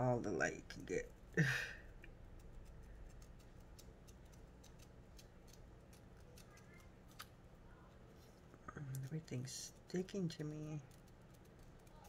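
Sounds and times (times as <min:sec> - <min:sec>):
faint small ticks and clicks: 0:01.0 - 0:12.0.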